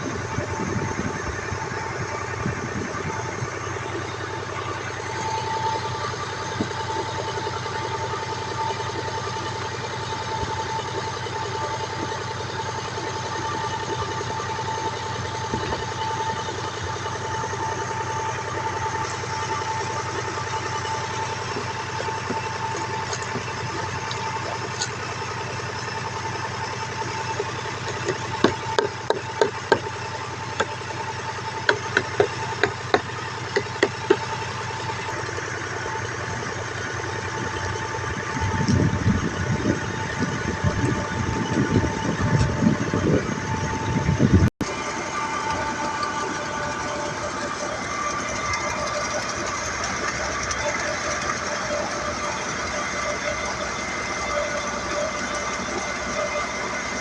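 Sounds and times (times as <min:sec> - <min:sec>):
steady whine: 0:00.0 - 0:57.0
tractor engine running: 0:00.0 - 0:57.0.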